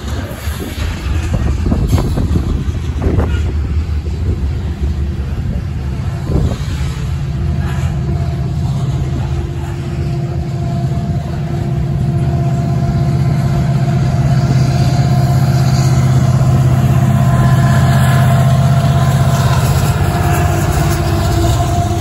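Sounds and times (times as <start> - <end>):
diesel locomotive engine drone: 0.0 - 22.0
freight cars rolling past: 0.0 - 22.0.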